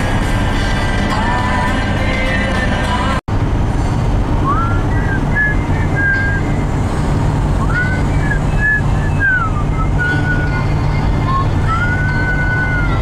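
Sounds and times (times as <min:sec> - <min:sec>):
car road rumble from inside: 0:00.0 - 0:13.0.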